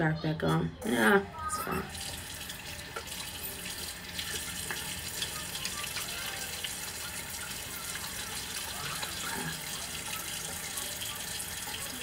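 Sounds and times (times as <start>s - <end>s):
sink tap running: 1.0s - 12.0s.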